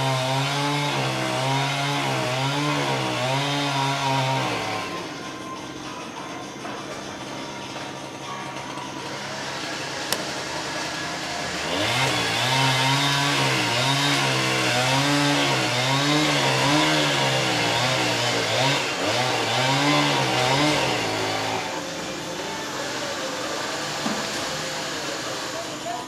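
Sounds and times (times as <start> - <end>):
chainsaw cutting wood: 0.0 - 5.5, 9.0 - 26.0.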